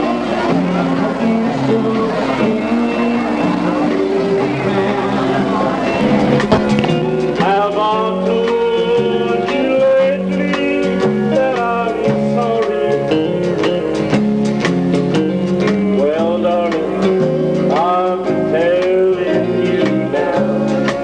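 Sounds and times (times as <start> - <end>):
country music with plucked guitar: 0.0 - 21.0.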